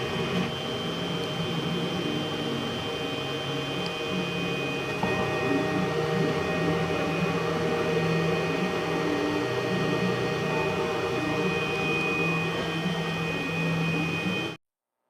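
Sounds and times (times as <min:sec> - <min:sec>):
small fan humming and whirring: 0:00.0 - 0:14.6.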